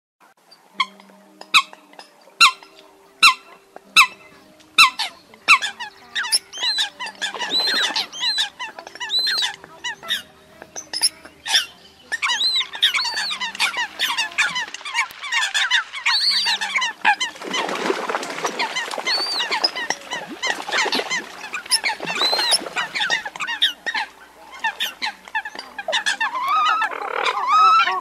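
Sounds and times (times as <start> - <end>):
birds calling: 0.4 - 28.0.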